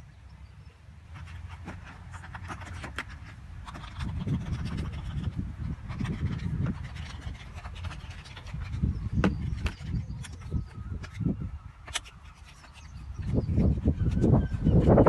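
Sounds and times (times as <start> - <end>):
scratching and scraping on card: 1.1 - 15.0.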